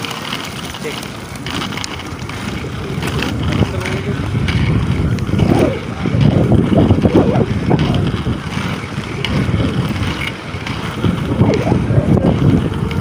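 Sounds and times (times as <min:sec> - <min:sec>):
skate wheels rolling on asphalt: 0:00.0 - 0:13.0
wind buffeting microphone: 0:00.0 - 0:13.0.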